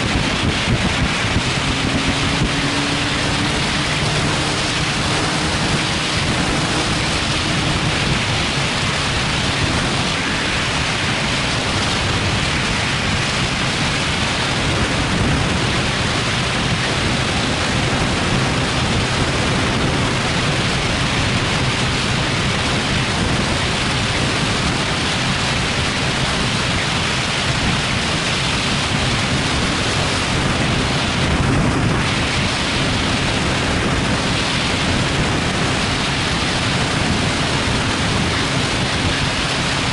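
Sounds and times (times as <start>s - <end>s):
low engine drone: 0.0s - 39.9s
wind rushing over microphone: 0.0s - 39.9s.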